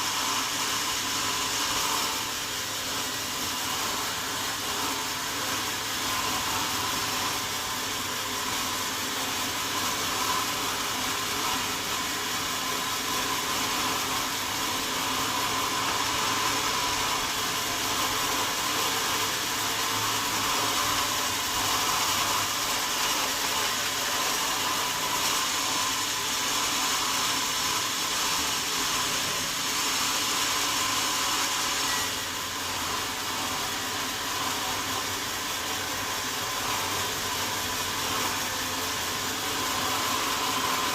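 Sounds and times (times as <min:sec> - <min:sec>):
sawmill blade whirring through wood: 0:00.0 - 0:40.9.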